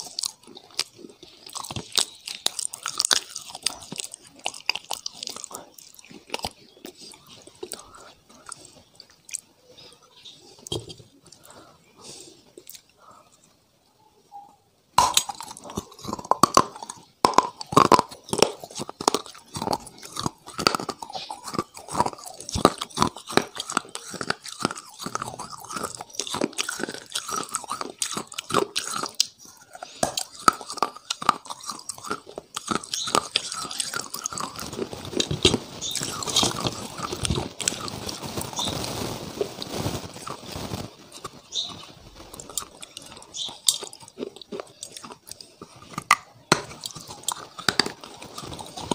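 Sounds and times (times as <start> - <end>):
biting and crunching brittle pieces: 0.0 - 9.9, 15.0 - 48.9
soft dense chewing: 0.0 - 48.9.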